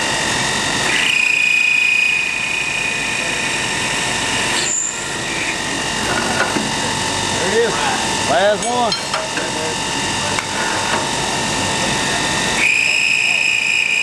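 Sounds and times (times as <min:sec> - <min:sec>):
chamfering machine whine: 0:00.0 - 0:14.0.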